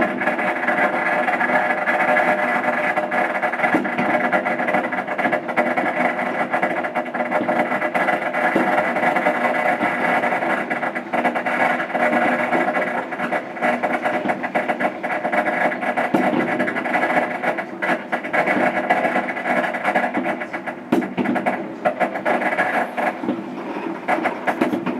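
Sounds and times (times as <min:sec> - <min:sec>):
firecrackers crackling: 0:00.0 - 0:24.9.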